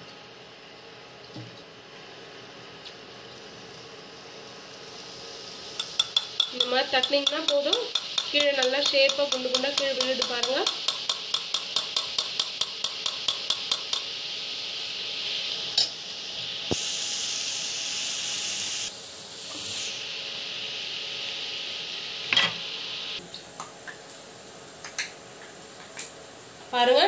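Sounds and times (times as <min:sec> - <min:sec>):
batter sizzling in oil: 0:01.8 - 0:27.0.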